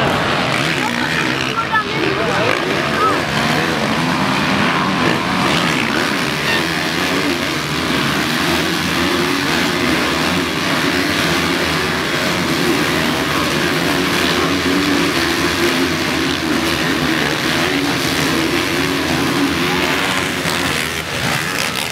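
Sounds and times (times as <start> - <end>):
motocross bikes racing: 0.0 - 21.9.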